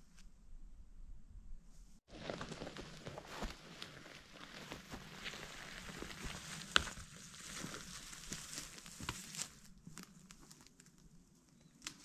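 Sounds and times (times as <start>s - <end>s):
rustling in dry leaves: 2.1s - 12.0s.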